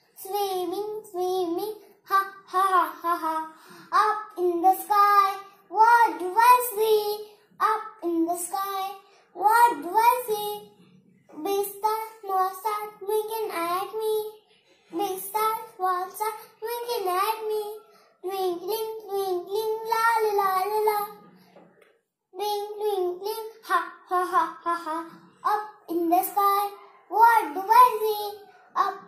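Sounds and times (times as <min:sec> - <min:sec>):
boy singing: 0:00.2 - 0:10.7, 0:11.3 - 0:21.2, 0:22.4 - 0:29.0.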